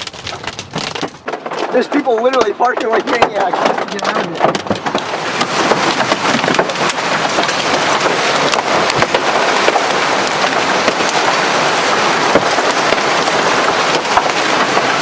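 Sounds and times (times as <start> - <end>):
hail pelting a car: 0.0 - 15.0.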